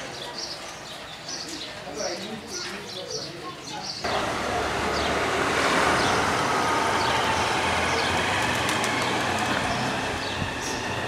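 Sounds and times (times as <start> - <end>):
birds chirping: 0.0 - 11.0
traffic rumble: 0.0 - 11.0.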